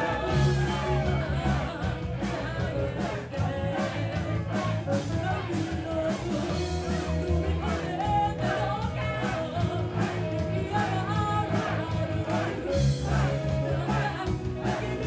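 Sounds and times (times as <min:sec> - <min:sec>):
drum kit: 0:00.0 - 0:15.0
electric bass: 0:00.0 - 0:15.0
woman singing lead: 0:00.0 - 0:15.0.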